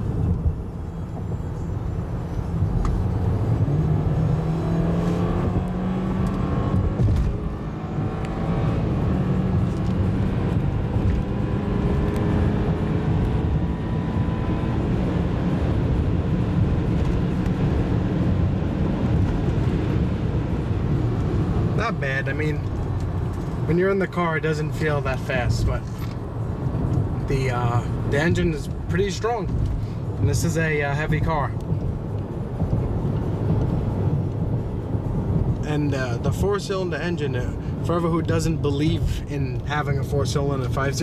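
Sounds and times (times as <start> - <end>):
car engine accelerating hard: 0.0 - 41.0
road noise: 0.0 - 41.0.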